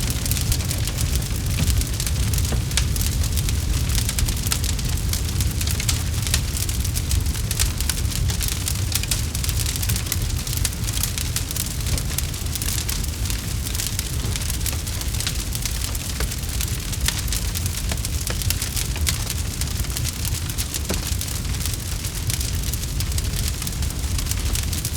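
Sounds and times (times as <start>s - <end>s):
campfire crackling: 0.0s - 24.9s.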